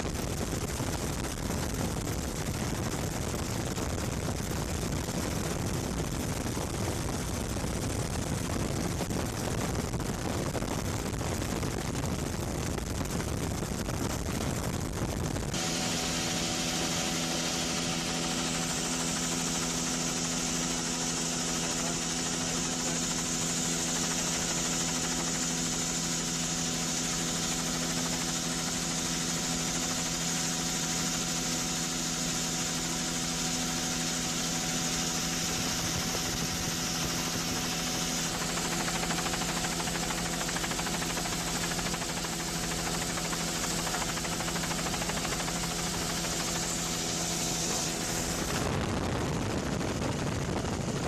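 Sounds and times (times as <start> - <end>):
aircraft engine drone: 0.0 - 51.0.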